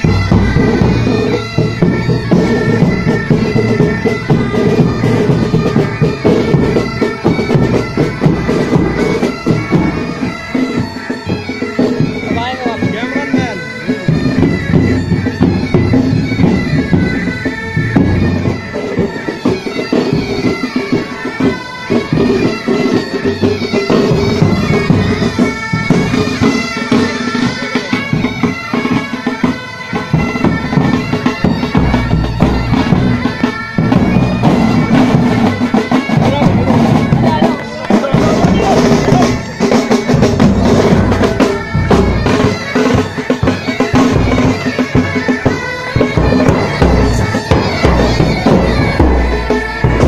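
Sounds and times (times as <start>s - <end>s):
bagpipes playing melody: 0.0s - 50.0s
drums beating: 0.0s - 50.0s.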